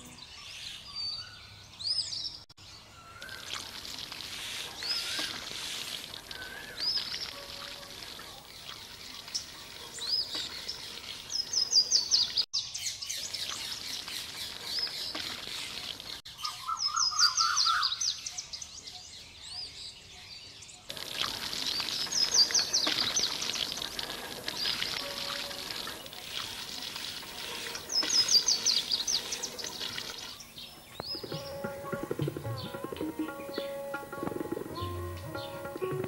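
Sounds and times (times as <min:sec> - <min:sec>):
background noise: 0:00.0 - 0:36.0
birdsong: 0:00.0 - 0:36.0.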